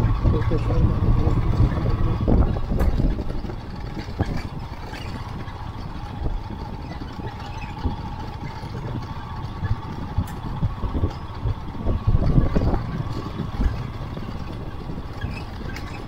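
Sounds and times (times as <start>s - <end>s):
motorcycle engine running: 0.0s - 16.0s
tyres on gravel road: 0.0s - 16.0s.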